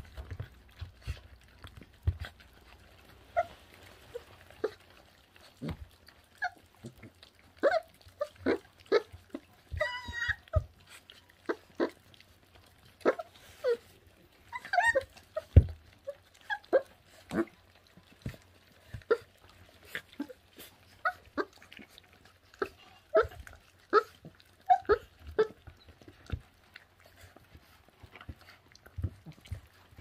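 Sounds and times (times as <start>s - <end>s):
puppies chewing meat: 0.0s - 30.0s
puppies grunting and whimpering: 0.0s - 30.0s.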